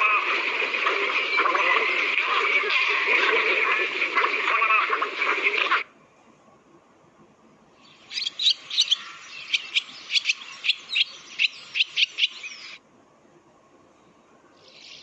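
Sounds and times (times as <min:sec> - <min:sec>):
recorded bird song: 0:00.0 - 0:05.3, 0:07.7 - 0:15.0.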